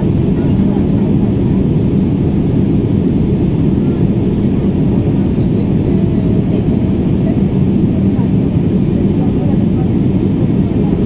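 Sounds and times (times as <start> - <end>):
jet airliner cabin noise: 0.0 - 11.0.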